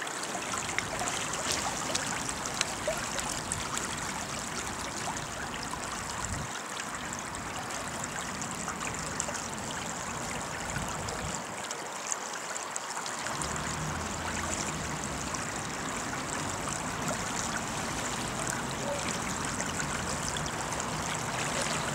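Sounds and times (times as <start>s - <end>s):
floodwater flowing over paving: 0.0s - 21.9s.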